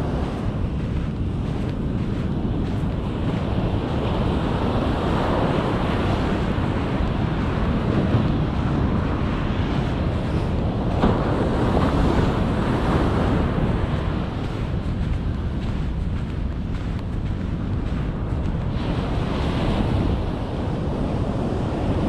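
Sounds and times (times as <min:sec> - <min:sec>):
surf breaking on a beach: 0:00.0 - 0:22.0
wind buffeting microphone: 0:00.0 - 0:22.0.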